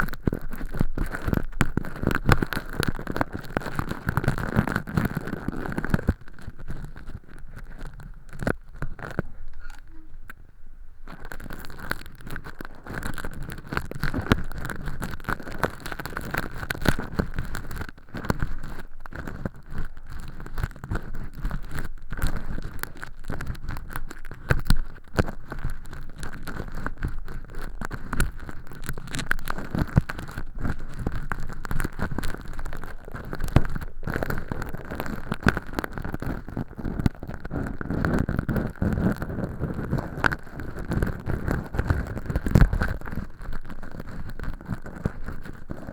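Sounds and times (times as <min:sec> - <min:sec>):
earpick scraping and crackling: 0:00.0 - 0:45.9.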